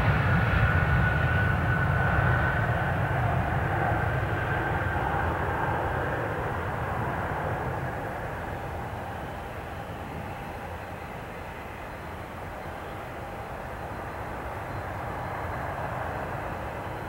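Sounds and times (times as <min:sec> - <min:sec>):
jet engines roaring with whine: 0:00.0 - 0:17.0.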